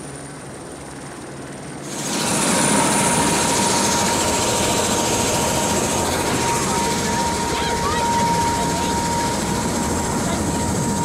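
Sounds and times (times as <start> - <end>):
helicopter rotor rushing: 0.0 - 11.0
turbine whine: 0.0 - 11.0
faint high whine: 1.2 - 11.0.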